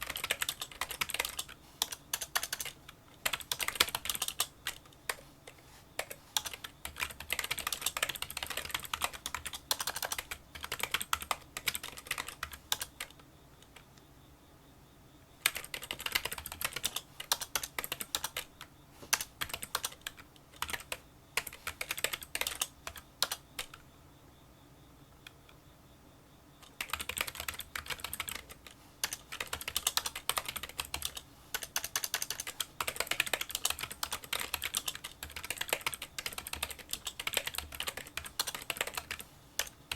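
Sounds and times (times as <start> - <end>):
keyboard typing clicks: 0.0 - 14.0, 15.4 - 18.5, 19.1 - 23.8, 26.6 - 39.8.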